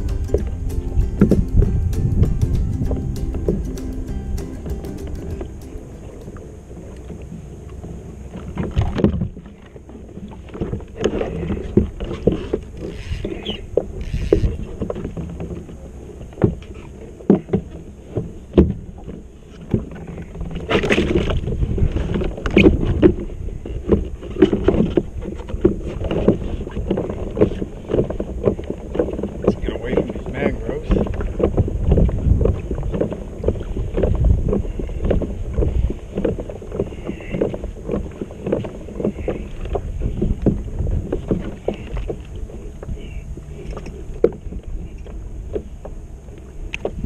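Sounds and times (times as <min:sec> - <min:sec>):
wind rumble on microphone: 0:00.0 - 0:47.0.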